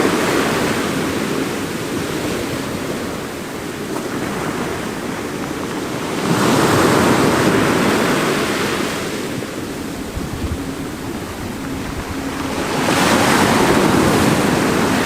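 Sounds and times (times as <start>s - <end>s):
sea waves washing into a cove: 0.0s - 15.0s.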